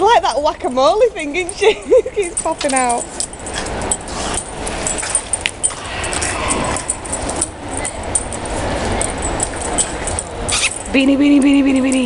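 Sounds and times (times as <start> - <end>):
background din of a large hall: 0.0 - 12.0.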